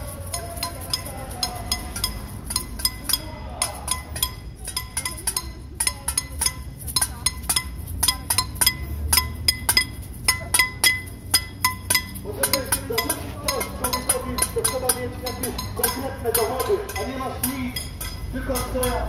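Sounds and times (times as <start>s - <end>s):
metal noisemakers ringing: 0.0s - 19.0s.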